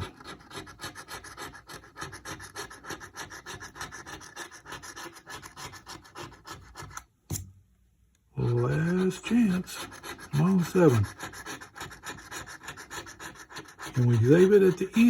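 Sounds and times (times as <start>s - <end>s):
scratching lottery ticket coating: 0.0s - 7.0s, 8.4s - 15.0s.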